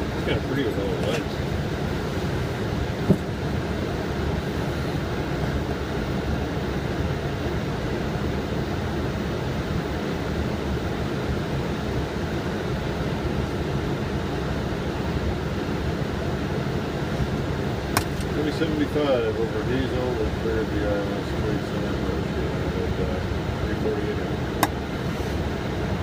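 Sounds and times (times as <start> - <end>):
cockpit airflow and engine hum: 0.0 - 26.0.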